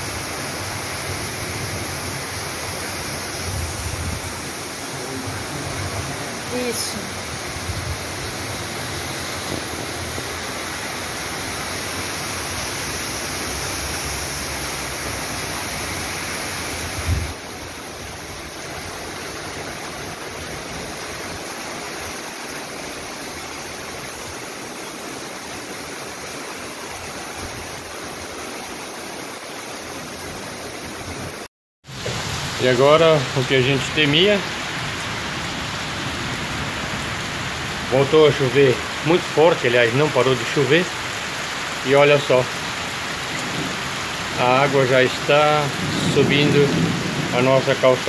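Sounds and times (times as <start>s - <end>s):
torrential rain: 0.0s - 48.0s.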